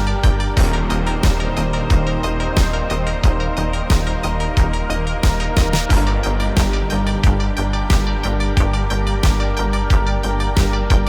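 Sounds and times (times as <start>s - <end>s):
music with steady beat: 0.0s - 11.0s
sustained synth chords: 0.0s - 11.0s.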